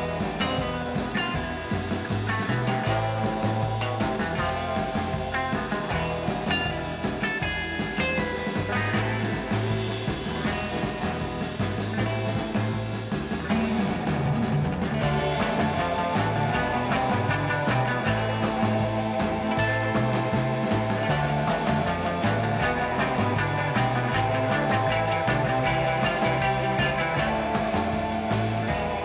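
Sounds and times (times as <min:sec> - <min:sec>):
rock music with guitar and bass: 0:00.0 - 0:29.0.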